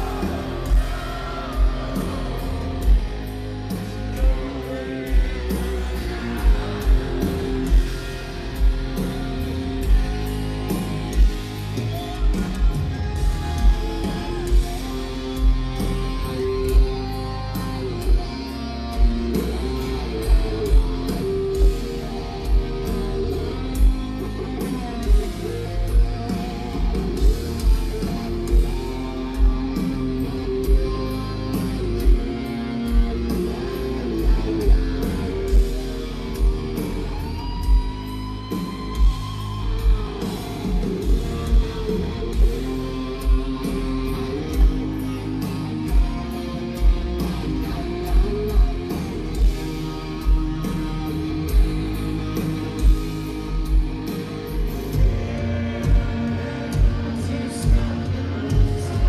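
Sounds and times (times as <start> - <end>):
bass guitar: 0.0 - 59.0
distorted electric guitar lead: 0.0 - 59.0.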